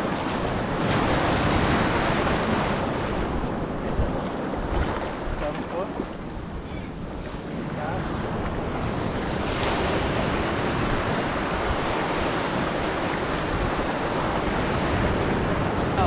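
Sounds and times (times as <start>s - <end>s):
surf washing over beach: 0.0s - 16.0s
wind buffeting microphone: 0.0s - 16.0s.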